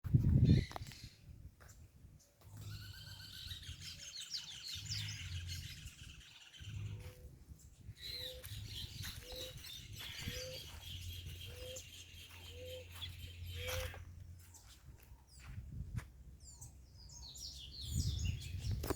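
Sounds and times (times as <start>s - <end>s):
birds chirping and trilling: 0.1s - 18.9s.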